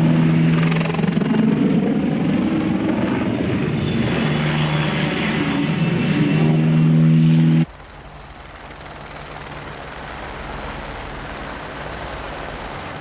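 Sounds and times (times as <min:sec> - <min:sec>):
helicopter in flight: 0:00.0 - 0:13.0.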